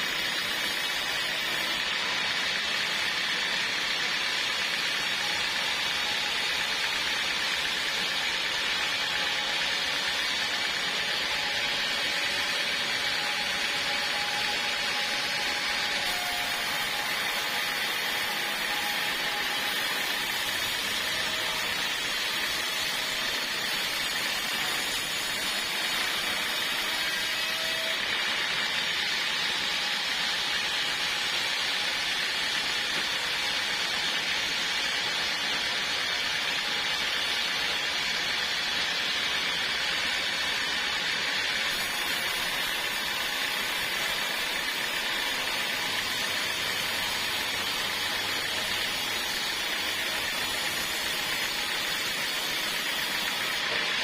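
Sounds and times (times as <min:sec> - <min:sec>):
sawmill cutting log: 0:00.0 - 0:54.0.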